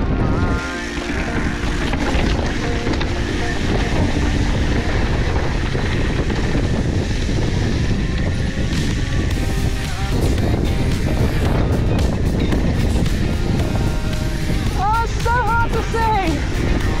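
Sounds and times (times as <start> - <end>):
bike tyres rolling on dirt trail: 0.0 - 17.0
wind buffeting microphone: 0.0 - 17.0.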